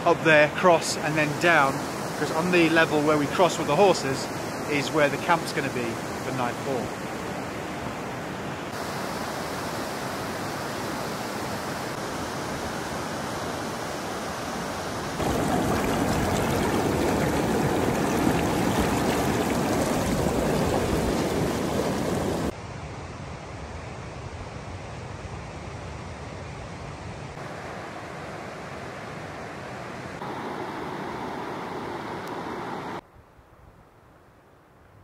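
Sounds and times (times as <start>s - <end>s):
mountain river rushing: 0.0s - 22.6s, 27.4s - 33.0s.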